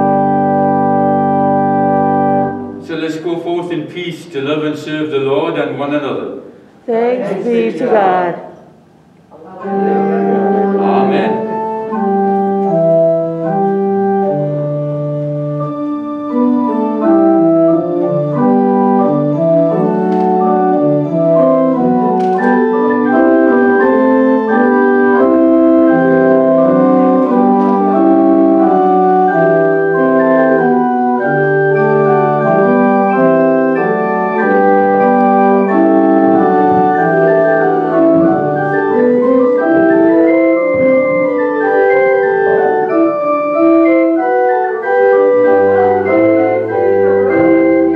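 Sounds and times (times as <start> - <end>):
church organ chords: 0.0 - 47.9.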